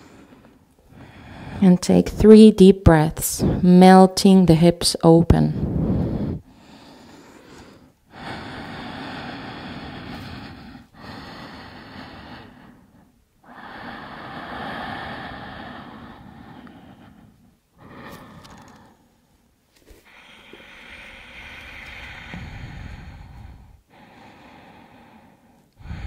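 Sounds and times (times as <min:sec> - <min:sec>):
woman breathing slowly and deeply: 0:00.0 - 0:01.8, 0:05.6 - 0:26.0.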